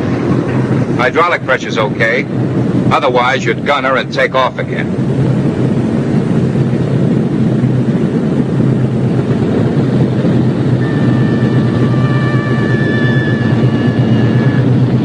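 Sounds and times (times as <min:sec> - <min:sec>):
aircraft propeller engines droning: 0:00.0 - 0:15.0.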